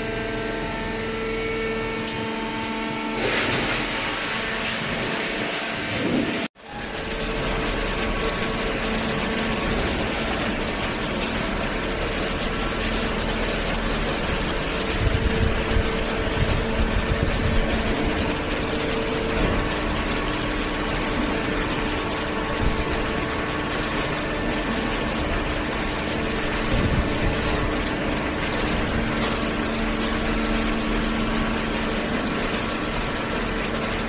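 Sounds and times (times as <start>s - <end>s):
machine hum with held tones: 0.0s - 34.0s.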